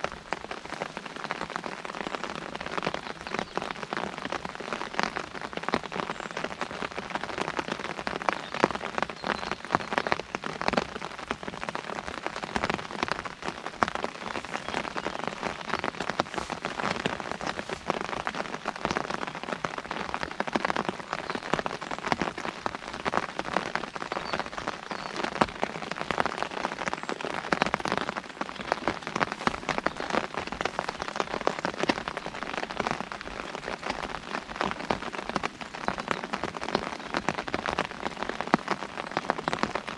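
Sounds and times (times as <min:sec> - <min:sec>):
hiss of falling rain: 0:00.0 - 0:39.9
rain pattering on an umbrella: 0:00.0 - 0:39.9.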